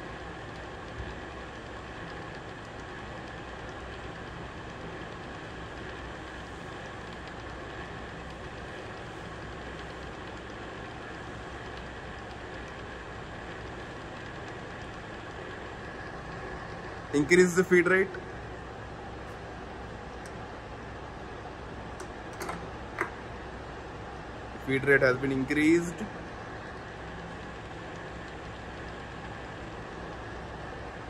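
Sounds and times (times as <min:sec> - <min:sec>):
drill press motor humming: 0:00.0 - 0:31.0
faint steady whine: 0:00.0 - 0:31.0.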